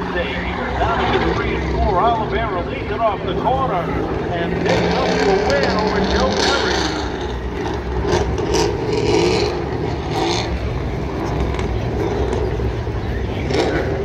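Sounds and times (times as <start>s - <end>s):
grandstand crowd noise: 0.0s - 14.0s
race car engines wavering: 0.0s - 14.0s.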